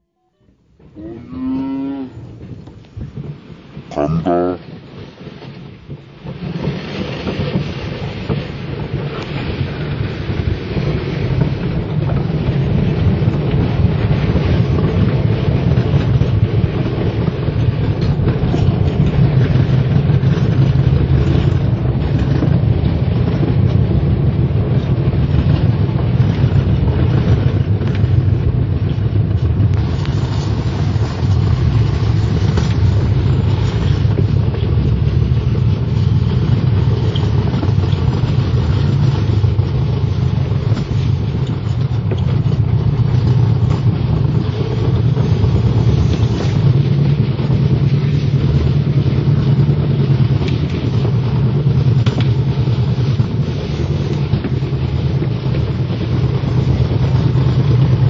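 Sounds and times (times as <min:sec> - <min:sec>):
sled wheels rumbling on track: 0:00.4 - 0:58.0.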